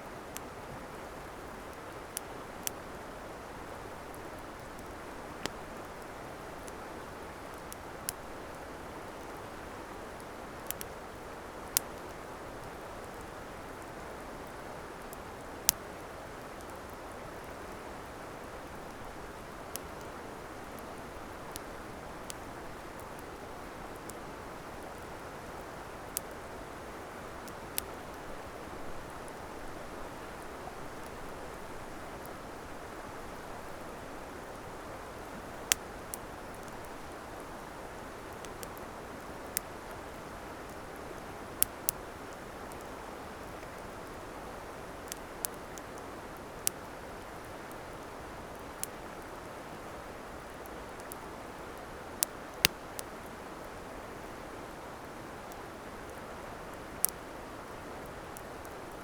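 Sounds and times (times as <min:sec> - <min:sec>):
campfire crackling: 0:00.1 - 0:59.0.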